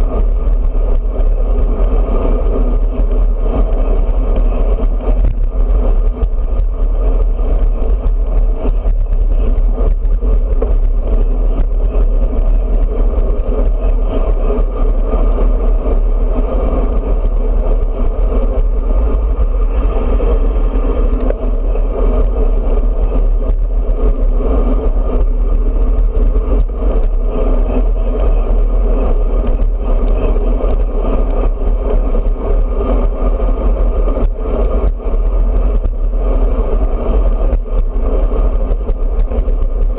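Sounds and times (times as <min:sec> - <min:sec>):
road and tyre noise: 0:00.0 - 0:39.9
wind buffeting microphone: 0:00.0 - 0:39.9.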